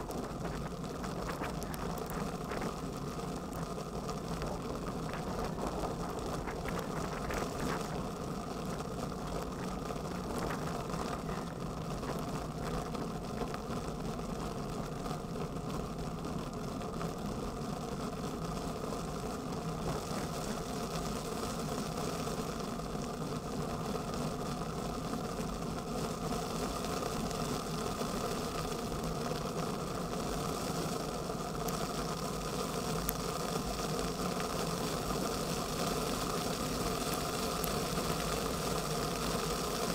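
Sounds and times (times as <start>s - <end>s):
bicycle rolling over asphalt: 0.0s - 39.9s.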